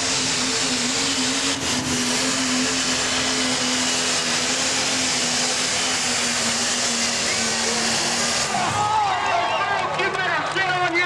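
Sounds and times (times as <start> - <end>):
tractor engine running at high revs: 0.0 - 10.2.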